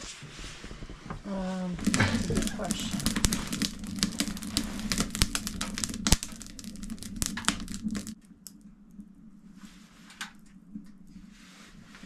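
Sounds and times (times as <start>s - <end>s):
wood fire crackling and popping: 0.3s - 9.2s, 10.1s - 11.2s.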